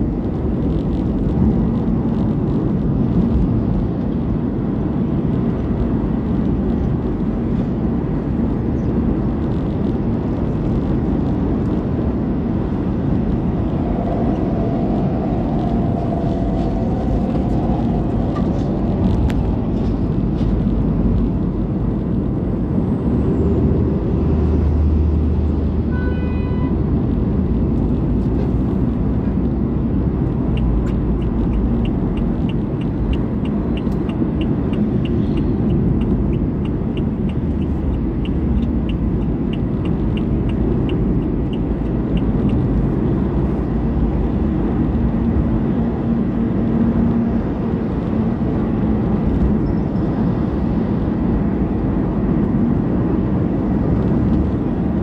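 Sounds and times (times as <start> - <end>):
car cabin engine and tyre rumble: 0.0 - 55.0.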